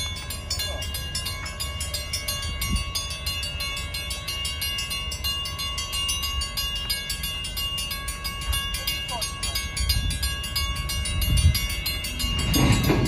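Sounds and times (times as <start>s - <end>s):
crossing warning bells ringing: 0.0s - 13.0s
steady low rumble: 0.0s - 13.0s.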